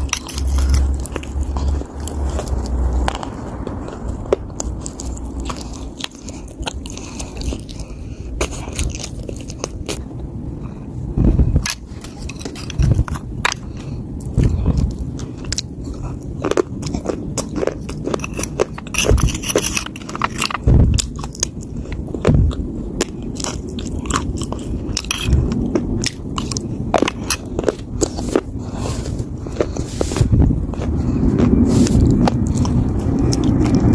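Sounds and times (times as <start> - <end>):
crunching hard earth between teeth: 0.0 - 10.1, 10.7 - 33.9
dull chewing: 0.0 - 33.9.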